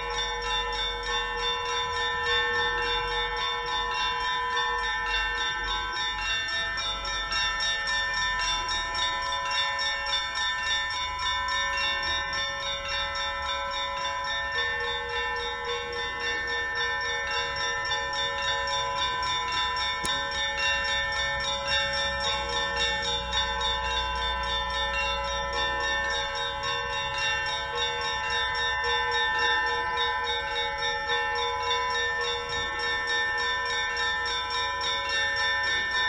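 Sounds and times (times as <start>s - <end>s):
monastery bells pealing: 0.0s - 36.0s.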